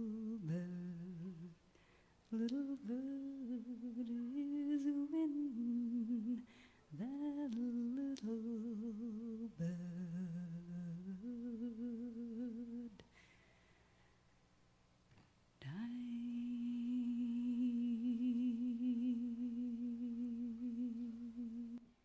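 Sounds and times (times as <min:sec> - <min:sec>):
person humming a slow melody: 0:00.0 - 0:01.6, 0:02.3 - 0:13.1, 0:15.6 - 0:22.0.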